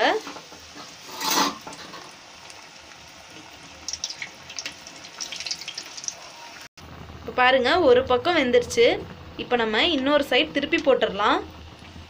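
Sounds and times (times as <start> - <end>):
batter sizzling in hot oil: 0.0 - 12.0
sharp oil crackles: 0.0 - 12.0.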